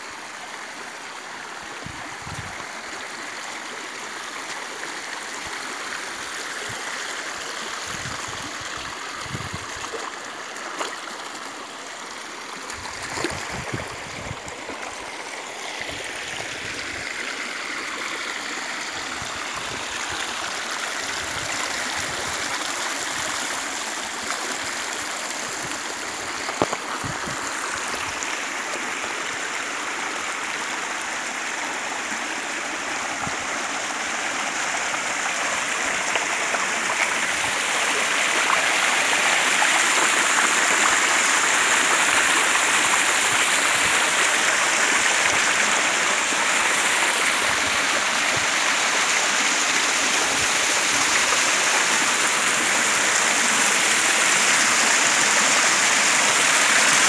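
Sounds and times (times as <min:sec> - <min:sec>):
water rushing down waterfall: 0:00.0 - 0:57.0.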